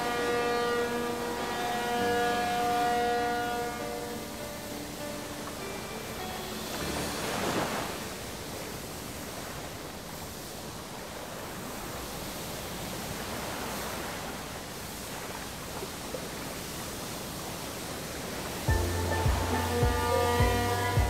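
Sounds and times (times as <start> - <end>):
waves breaking on shore: 0.0 - 21.0.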